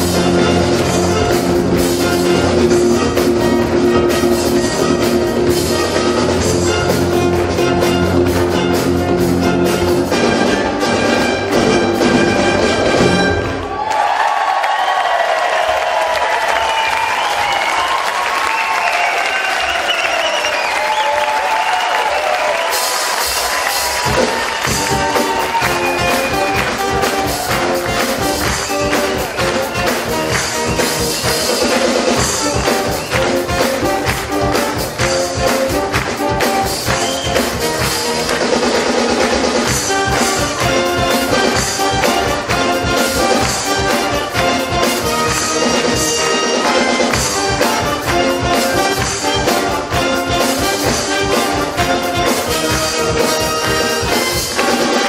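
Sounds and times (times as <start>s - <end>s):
brass-like melody: 0.0s - 13.7s, 22.6s - 55.0s
live band music: 0.0s - 13.8s, 15.8s - 55.0s
drums: 0.0s - 55.0s.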